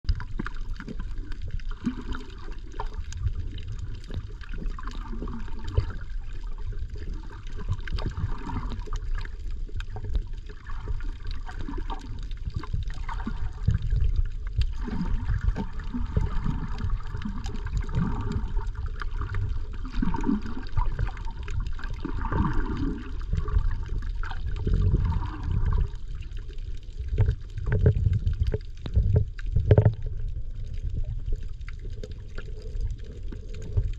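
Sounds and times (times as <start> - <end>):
underwater rumble and sloshing: 0.0 - 33.9.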